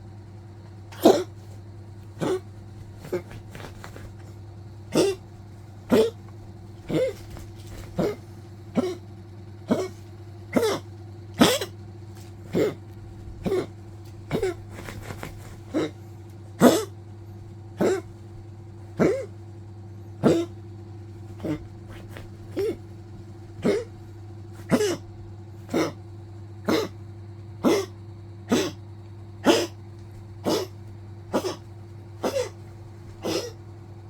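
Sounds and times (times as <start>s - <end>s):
dog coughing: 0.6s - 34.0s.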